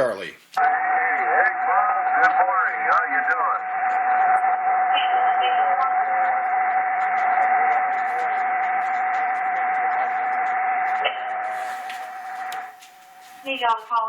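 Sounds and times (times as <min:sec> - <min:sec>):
radio band hiss: 0:00.0 - 0:14.0.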